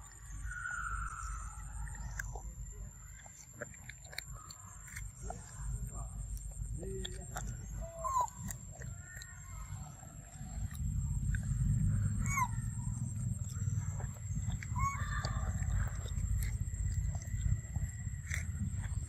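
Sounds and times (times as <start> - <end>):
monkey munching fruit: 0.0 - 19.0.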